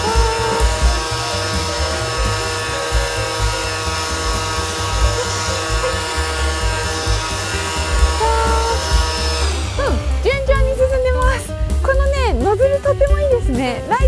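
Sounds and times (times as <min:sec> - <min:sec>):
electric blower whining: 0:00.0 - 0:13.5.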